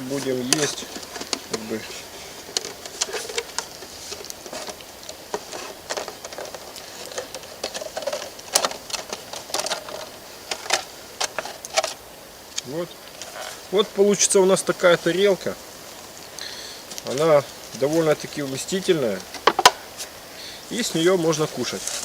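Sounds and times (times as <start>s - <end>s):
plastic bottle crackling: 0.0s - 20.2s.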